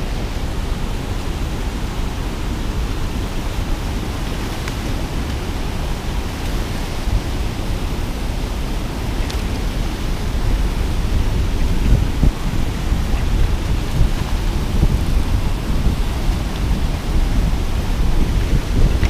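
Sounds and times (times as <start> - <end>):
churning foamy water: 0.0 - 19.0.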